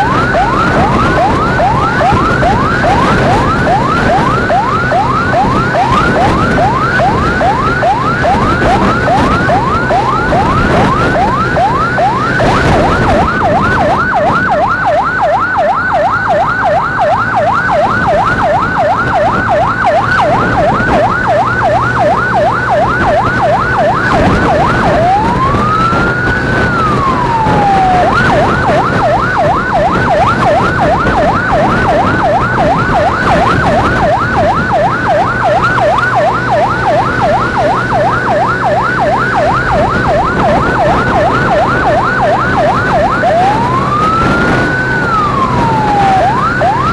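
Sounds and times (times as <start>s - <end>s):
emergency siren: 0.0s - 46.9s
engine and road noise: 0.0s - 46.9s.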